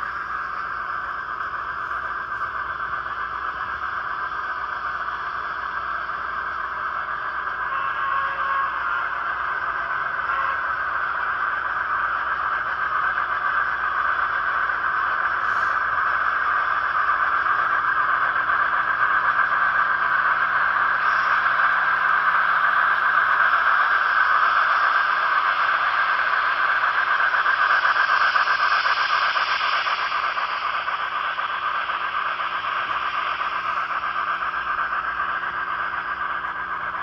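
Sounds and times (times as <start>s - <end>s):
model steam locomotive chuffing hiss: 0.0s - 37.0s.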